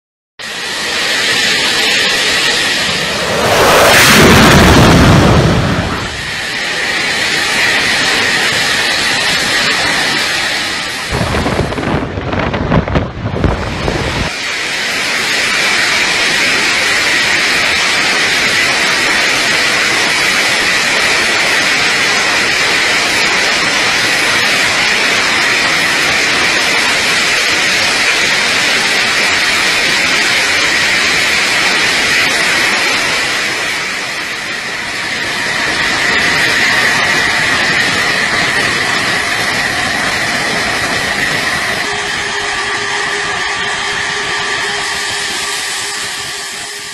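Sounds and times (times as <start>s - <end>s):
jet engine roar and airflow: 0.4s - 46.9s.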